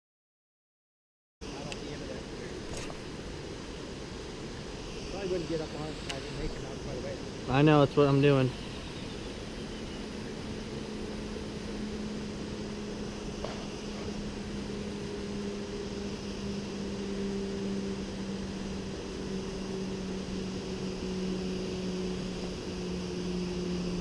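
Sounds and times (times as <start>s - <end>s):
electric motor humming: 1.5s - 24.0s
water and wind noise: 1.5s - 24.0s.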